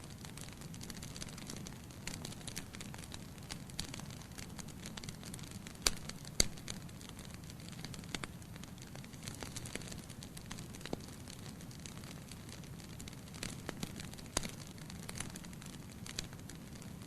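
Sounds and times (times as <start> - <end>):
low rumble of flame: 0.0 - 17.0
wood fire crackling: 0.0 - 17.0
loud fire pops: 0.2 - 17.0.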